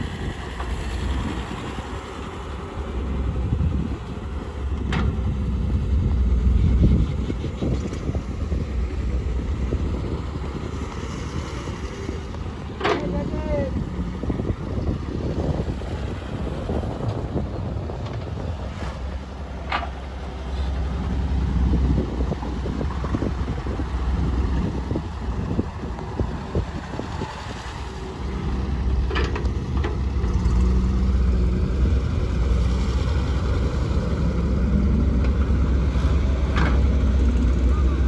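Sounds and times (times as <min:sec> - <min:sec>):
diesel engines under load: 0:00.0 - 0:38.0.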